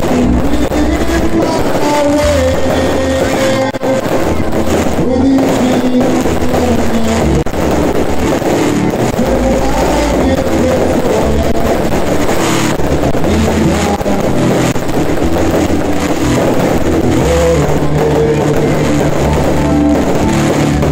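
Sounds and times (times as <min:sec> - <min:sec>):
dull firework bangs: 0:00.0 - 0:20.9
loud music over sound system: 0:00.0 - 0:20.9.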